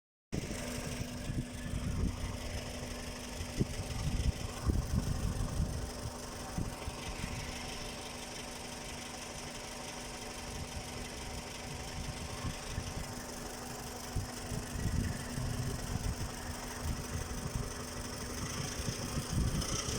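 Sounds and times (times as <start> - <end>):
car engine idling: 0.4 - 19.9.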